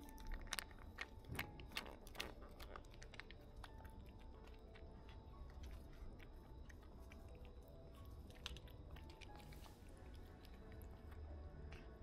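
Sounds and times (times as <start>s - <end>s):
kitten chewing wet food: 0.0s - 12.0s.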